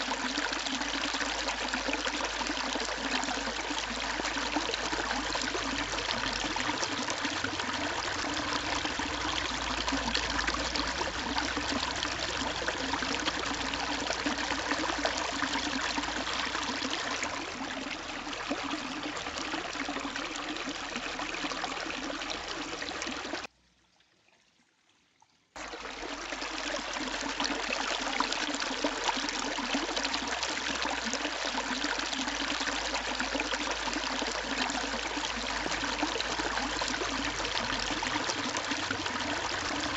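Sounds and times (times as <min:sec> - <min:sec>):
water trickling over stones: 0:00.0 - 0:39.9.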